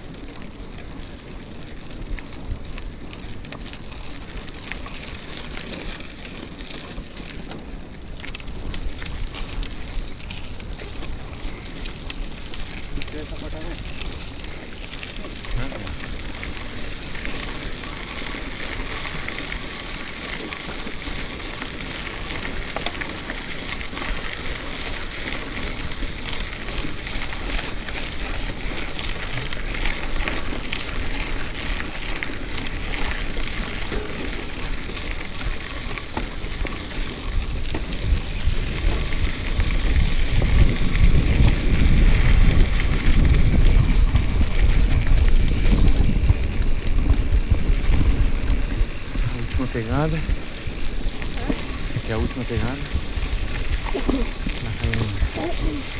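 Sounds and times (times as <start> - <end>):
bicycle tyres crackling on gravel: 0.0 - 55.9
wind rumble on microphone: 0.0 - 55.9.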